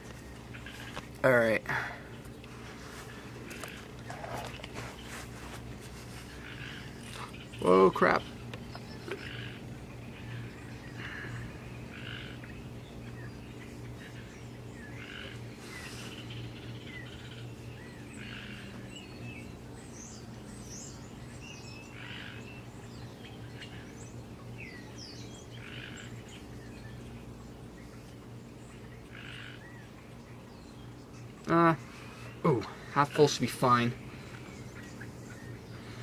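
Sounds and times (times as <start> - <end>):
birds chirping: 0.0 - 36.0
steady low hum: 0.0 - 36.0.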